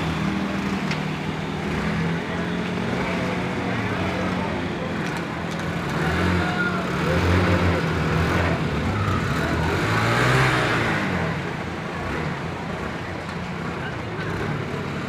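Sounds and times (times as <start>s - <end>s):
vehicle engine running: 0.0s - 15.0s
vehicles passing: 0.0s - 15.0s.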